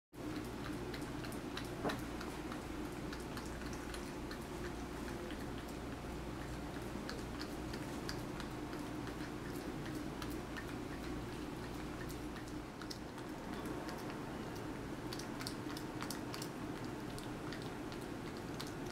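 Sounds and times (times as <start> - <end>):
cat nibbling and licking: 0.2 - 18.9
low room hum: 0.2 - 18.9.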